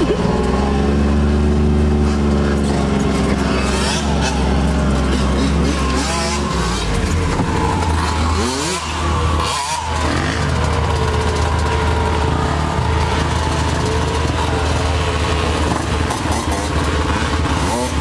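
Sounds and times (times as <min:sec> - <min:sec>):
dirt bike engines revving: 0:00.0 - 0:18.0
low engine drone: 0:00.0 - 0:18.0.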